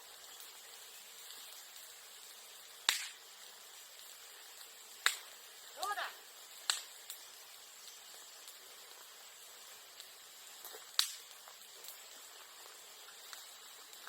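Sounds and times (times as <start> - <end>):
bonfire hissing and crackling: 0.0 - 14.0
sharp pops of burning bamboo: 0.0 - 14.0.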